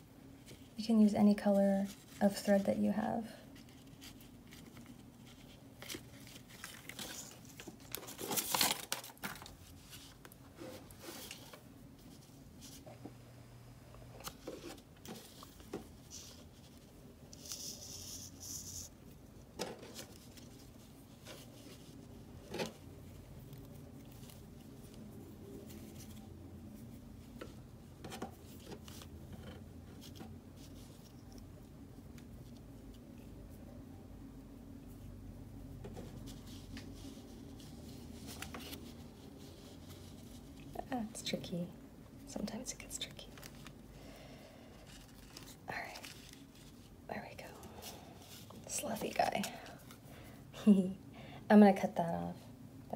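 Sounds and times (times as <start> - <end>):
paper and yarn rustling: 0.3 - 13.1, 14.2 - 33.7, 34.8 - 41.5, 42.3 - 43.9, 44.7 - 50.1.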